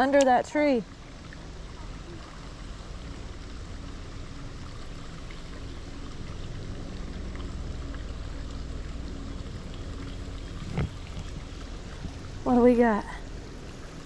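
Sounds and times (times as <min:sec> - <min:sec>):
creek water running: 0:00.0 - 0:14.0
low rumble: 0:00.0 - 0:14.0.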